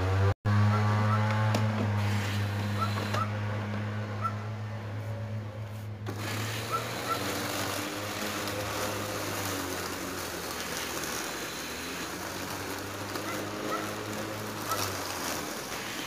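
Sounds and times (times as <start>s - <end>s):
electric lawnmower motor hum: 0.0s - 16.0s
rushing noise of mowing: 0.0s - 16.0s.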